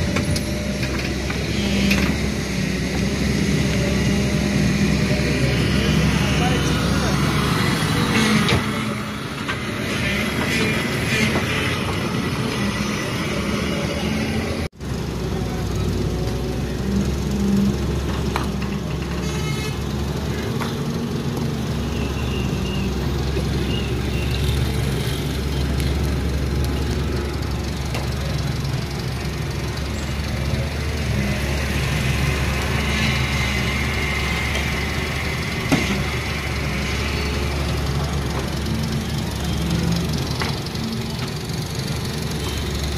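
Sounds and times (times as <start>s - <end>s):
diesel excavator engine running: 0.0s - 42.9s.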